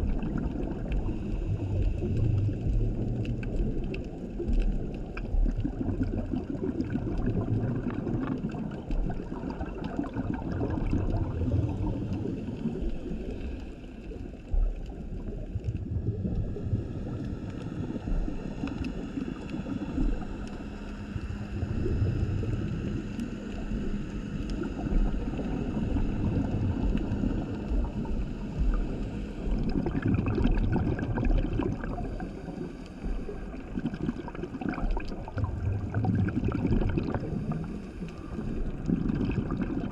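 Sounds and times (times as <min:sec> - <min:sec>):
underwater air bubbles gurgling: 0:00.0 - 0:39.9.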